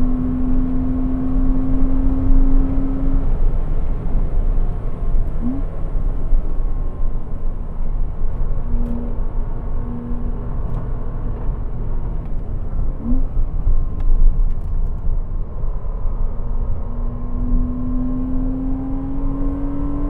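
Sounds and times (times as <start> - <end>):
car engine running steadily: 0.0 - 20.0
road and wind noise: 0.0 - 20.0.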